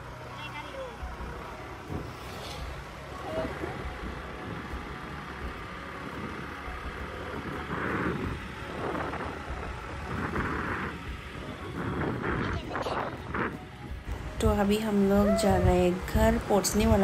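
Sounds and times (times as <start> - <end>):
road and wind noise: 0.0 - 17.0
small scooter engine running: 0.0 - 17.0.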